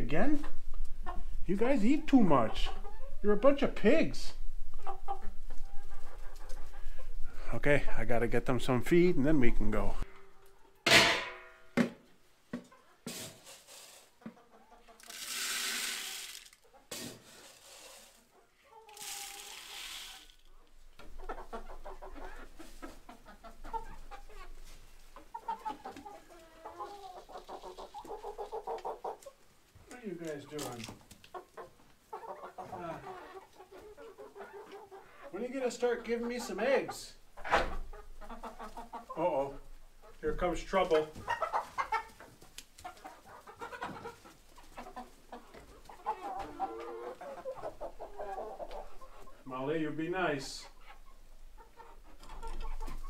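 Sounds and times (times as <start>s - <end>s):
chickens clucking: 0.0s - 11.4s, 12.5s - 53.0s.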